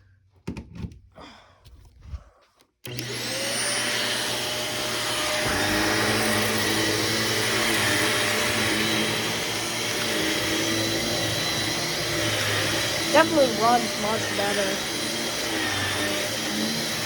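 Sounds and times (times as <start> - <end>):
vacuum cleaner motor whine: 2.9 - 17.0.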